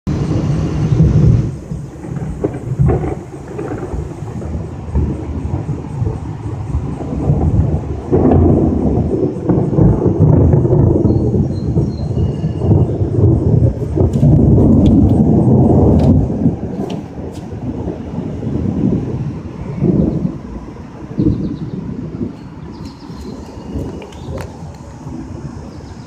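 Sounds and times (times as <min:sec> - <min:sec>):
thunder rumbling: 0:00.1 - 0:26.0.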